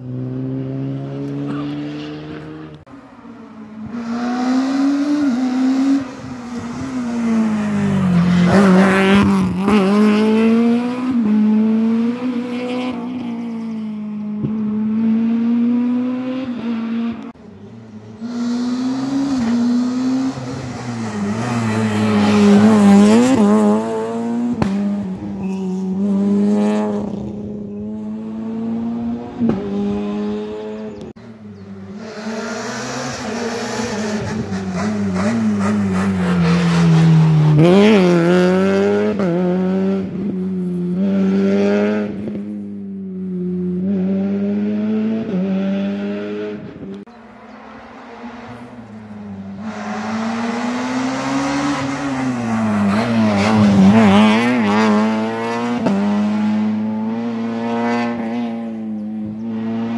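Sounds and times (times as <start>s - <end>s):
rally car engines revving past: 0.0s - 59.9s.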